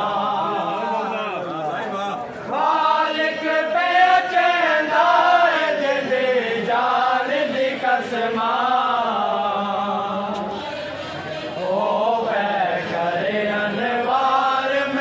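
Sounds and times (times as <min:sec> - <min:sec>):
group chanting in unison: 0:00.0 - 0:01.4, 0:02.5 - 0:15.0.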